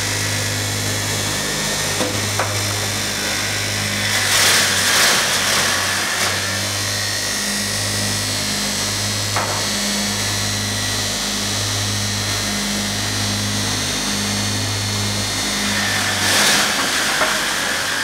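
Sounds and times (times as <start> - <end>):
machine motor hum: 0.0 - 18.0.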